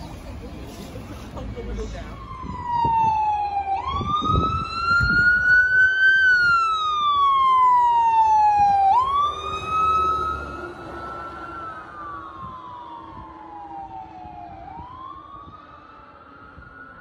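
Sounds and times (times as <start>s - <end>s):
fire engine siren wailing: 1.6s - 17.0s.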